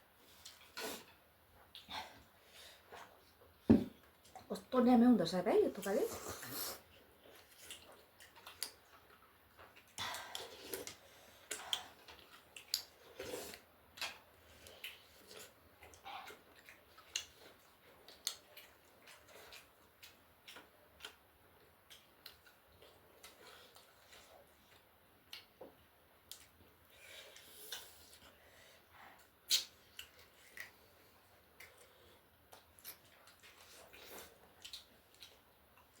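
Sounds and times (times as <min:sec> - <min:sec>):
chewing and mouth smacks: 0:00.2 - 0:02.3, 0:06.8 - 0:28.4, 0:29.1 - 0:36.0.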